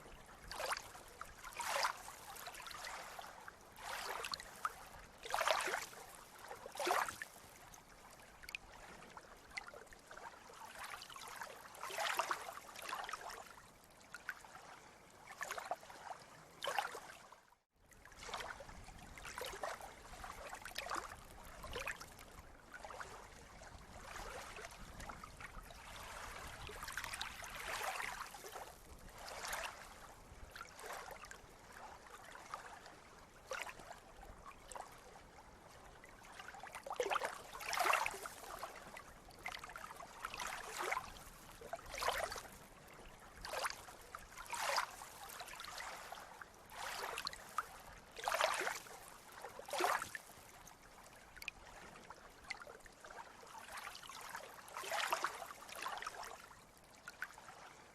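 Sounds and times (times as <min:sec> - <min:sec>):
water splashing and gurgling: 0:00.1 - 0:13.6, 0:14.4 - 0:17.2, 0:18.1 - 0:56.4.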